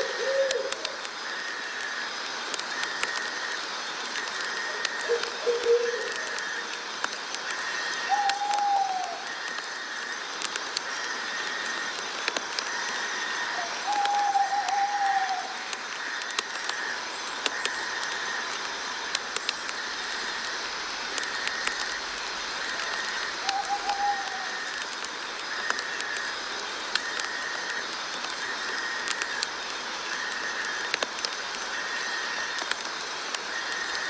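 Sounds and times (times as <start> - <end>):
pulsing night chorus: 0.0 - 32.8
scattered clicks: 0.0 - 34.0
steady hiss: 0.0 - 34.0.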